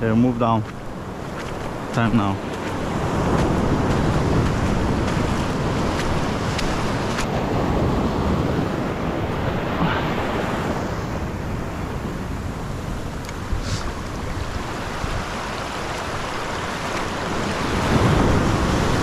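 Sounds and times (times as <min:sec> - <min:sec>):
surf washing over rocks: 0:00.0 - 0:19.0
wind buffeting microphone: 0:00.0 - 0:19.0.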